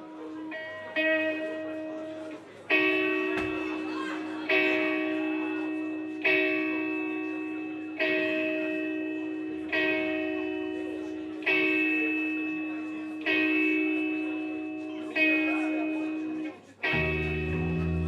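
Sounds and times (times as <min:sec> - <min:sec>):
guitar chord strikes: 0:00.0 - 0:18.0.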